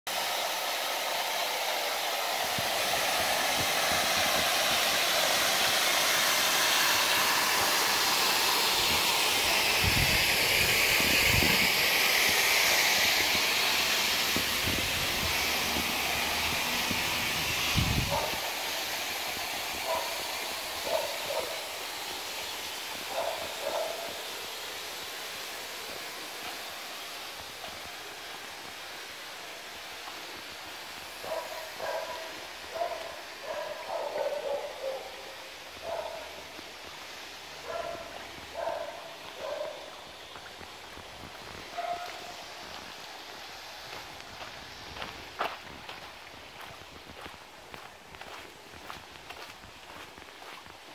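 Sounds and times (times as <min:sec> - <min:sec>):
water spraying from leaking pipe: 0:00.1 - 0:50.9.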